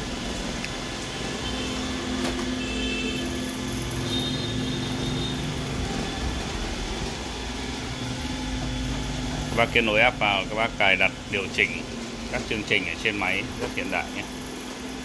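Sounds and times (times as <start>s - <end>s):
robot vacuum motor hum: 0.0s - 15.0s.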